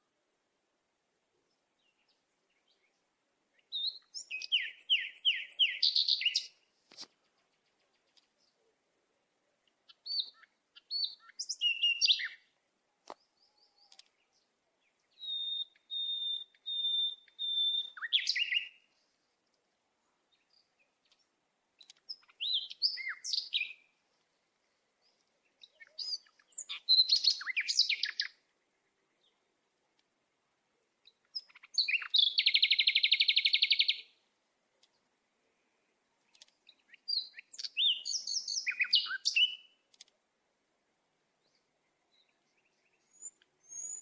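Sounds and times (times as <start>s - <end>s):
songbird chirps and trills: 0.0s - 44.0s.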